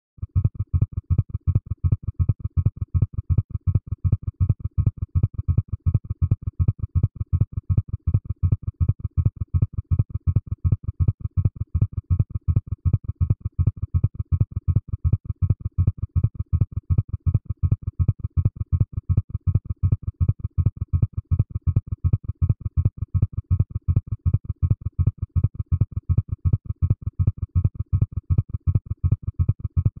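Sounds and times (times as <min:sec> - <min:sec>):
pulsing low synthesized hum: 0:00.2 - 0:30.0.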